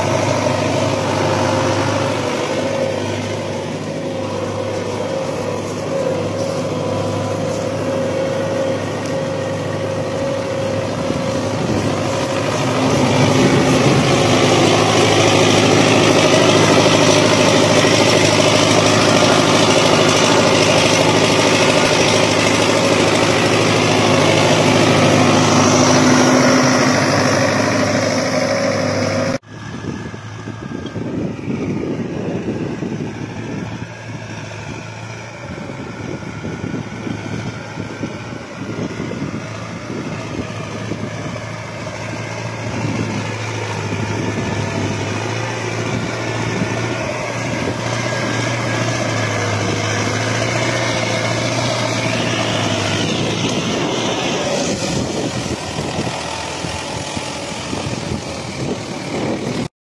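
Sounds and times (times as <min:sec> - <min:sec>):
tractor diesel engine under load: 0:00.0 - 0:59.7.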